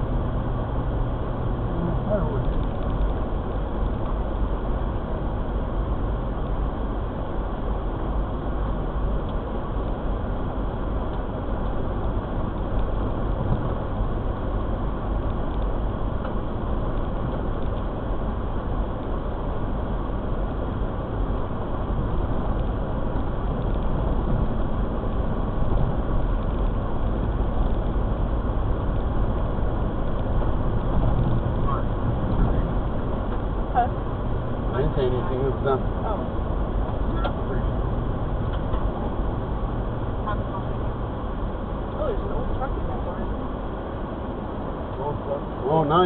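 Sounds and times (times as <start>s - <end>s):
road and engine rumble in car: 0.0s - 46.0s.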